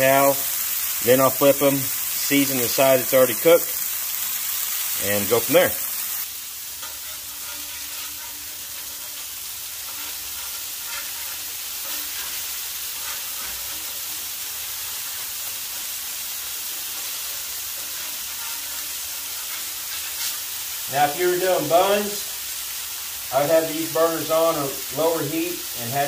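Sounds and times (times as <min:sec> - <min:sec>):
burger patties sizzling on griddle: 0:00.0 - 0:26.0.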